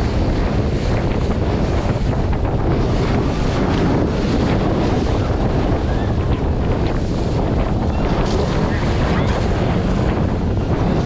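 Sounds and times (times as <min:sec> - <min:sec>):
seawater rushing and splashing: 0:00.0 - 0:11.0
wind buffeting microphone: 0:00.0 - 0:11.0.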